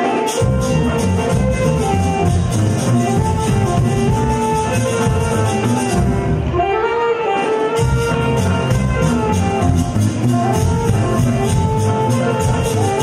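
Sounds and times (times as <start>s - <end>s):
live latin band music: 0.0s - 13.0s.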